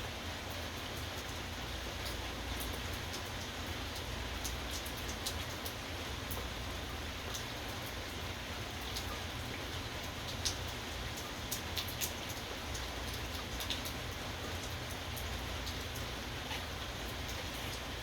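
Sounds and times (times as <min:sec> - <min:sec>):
raindrops ticking close by: 0:00.0 - 0:18.0
steady rain hiss: 0:00.0 - 0:18.0.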